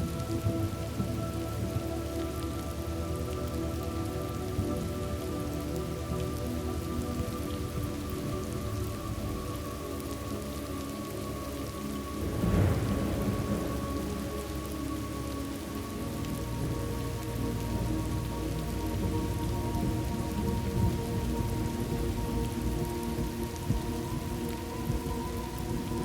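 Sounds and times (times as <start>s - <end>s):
steady rain falling: 0.0s - 26.0s
thunder rumbling: 0.0s - 26.0s.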